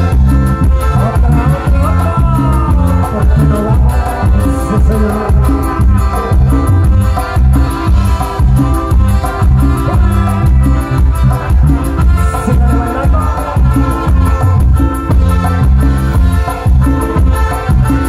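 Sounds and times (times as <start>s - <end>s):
live latin dance band: 0.0s - 18.0s
prominent bass notes: 0.0s - 18.0s.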